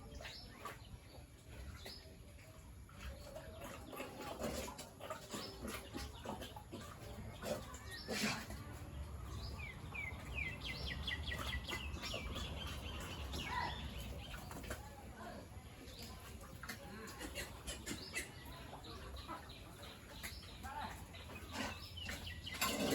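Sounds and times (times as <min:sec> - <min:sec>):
farmyard knocks and clicks: 0:00.0 - 0:22.9.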